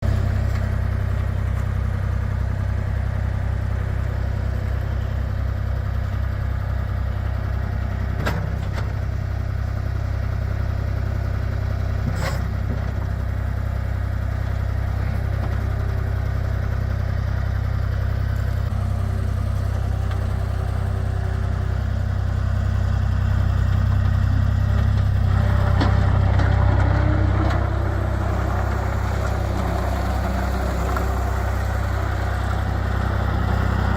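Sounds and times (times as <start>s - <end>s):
skid steer engine idling: 0.0s - 33.9s.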